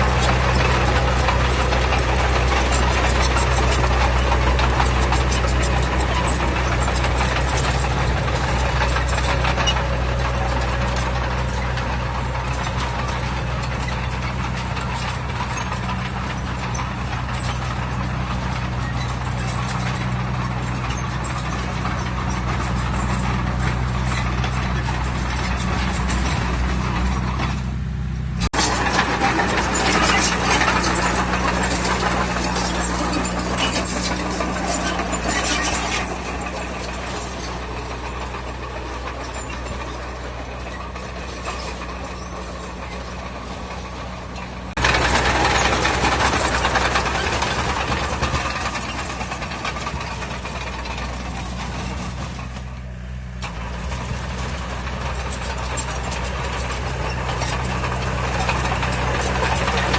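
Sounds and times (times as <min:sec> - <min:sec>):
diesel machinery running: 0:00.0 - 0:59.9
gritty grinding noise: 0:00.0 - 0:59.9.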